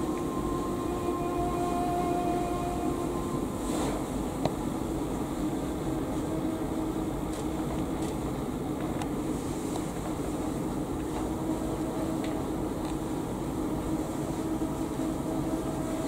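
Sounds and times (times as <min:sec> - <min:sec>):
air conditioning hum and hiss: 0:00.0 - 0:16.0.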